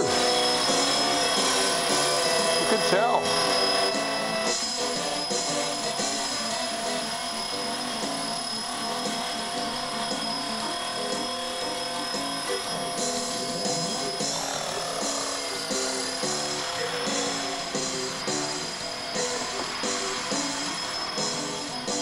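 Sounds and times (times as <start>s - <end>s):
background music with steady beat: 0.0s - 22.0s
rc helicopter rotor whine: 0.0s - 22.0s.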